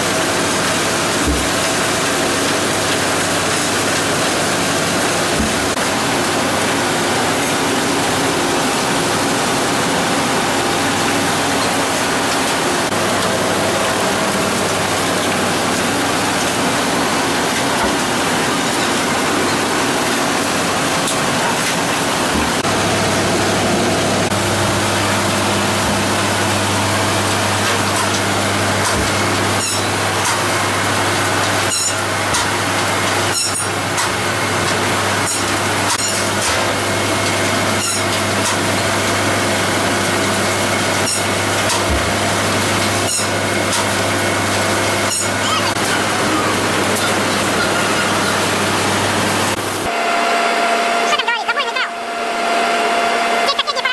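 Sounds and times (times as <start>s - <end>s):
processing machinery din: 0.0s - 53.9s.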